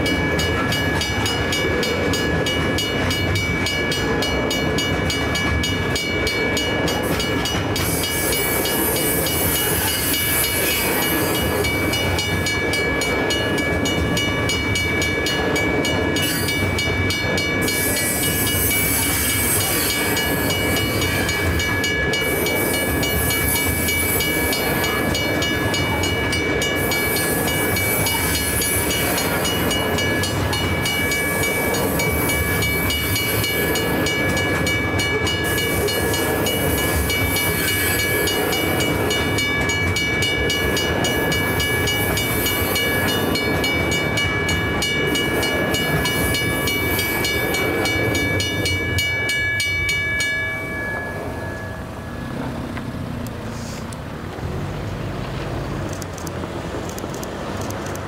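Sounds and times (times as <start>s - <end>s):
level-crossing bell ringing: 0.0s - 52.6s
train wagons rumbling and clattering: 0.0s - 58.0s.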